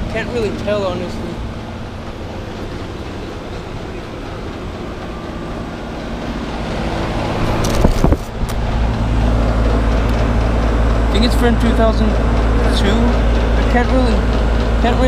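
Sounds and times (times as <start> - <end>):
heat pump compressor hum: 0.0 - 15.0.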